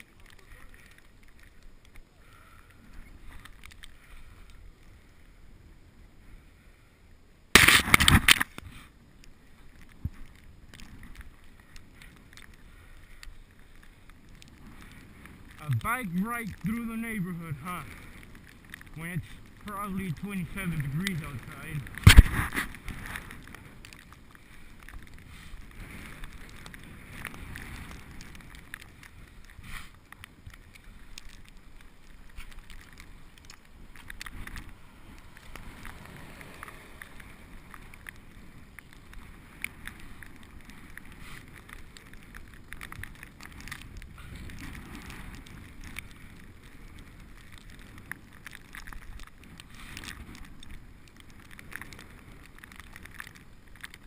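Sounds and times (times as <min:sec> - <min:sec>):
bike clicks and rattles: 0:00.0 - 0:04.9, 0:07.6 - 0:54.0
bicycle tyres rumbling on road: 0:00.0 - 0:54.0.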